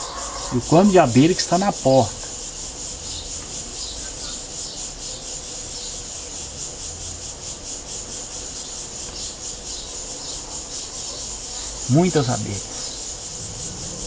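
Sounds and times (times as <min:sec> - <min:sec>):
high-pitched insect chirring: 0:00.0 - 0:14.0.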